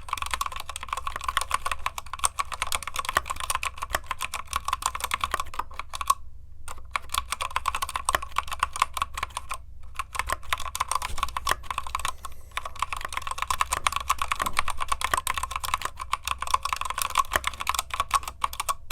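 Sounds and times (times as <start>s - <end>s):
mechanical keyboard typing: 0.0s - 18.9s.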